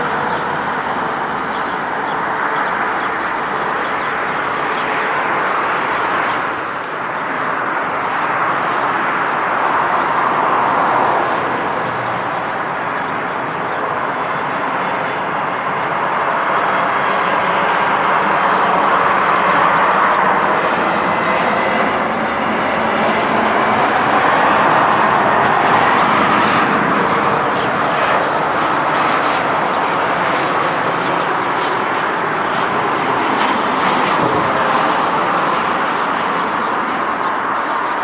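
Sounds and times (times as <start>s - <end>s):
jet airliner engines roaring: 0.0s - 38.0s.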